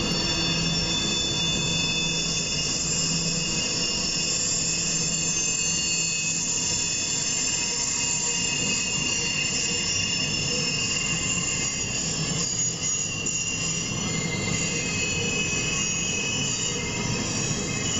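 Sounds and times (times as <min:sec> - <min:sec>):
rumble of passing train: 0:00.0 - 0:17.9
train wheels squealing on rails: 0:00.0 - 0:17.9.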